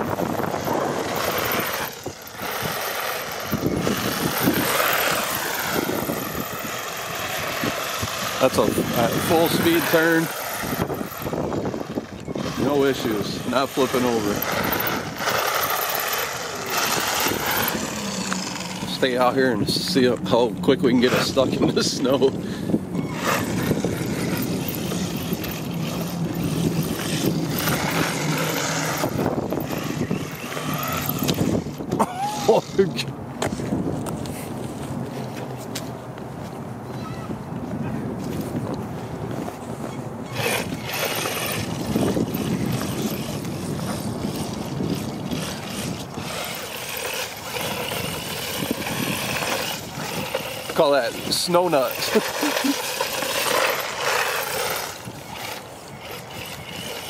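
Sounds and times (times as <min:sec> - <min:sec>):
electric toy truck motor hum: 0:00.0 - 0:34.4, 0:40.1 - 0:57.0
tyre noise: 0:00.0 - 0:57.0.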